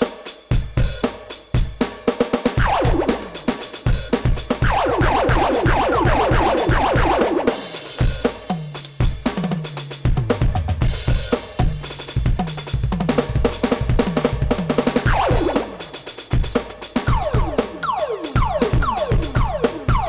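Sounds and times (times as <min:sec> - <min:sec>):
electronic drum kit groove: 0:00.0 - 0:20.0.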